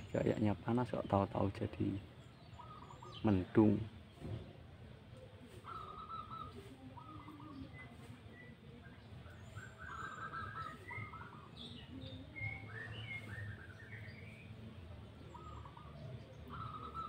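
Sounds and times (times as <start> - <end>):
birds chirping and whistling: 0.0 - 4.5, 5.1 - 17.0.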